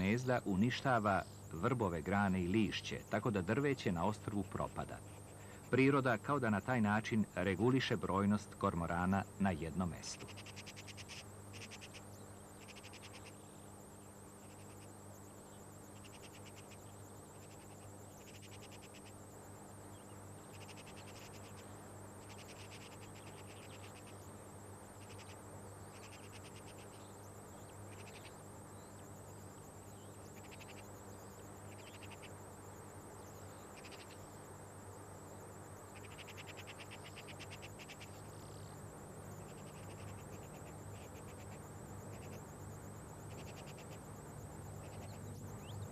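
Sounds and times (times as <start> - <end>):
insects chirping: 0.0 - 45.9.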